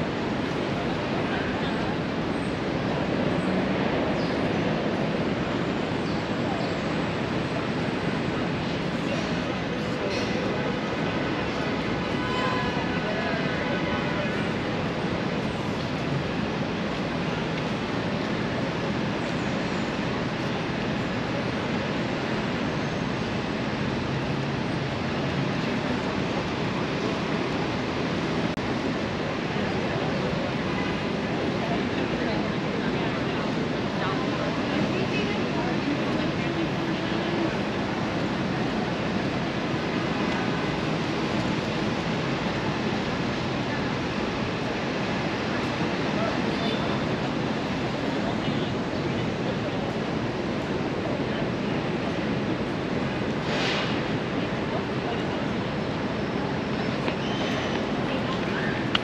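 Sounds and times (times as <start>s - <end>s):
faint voices: 0.0s - 59.0s
traffic noise: 0.0s - 59.0s.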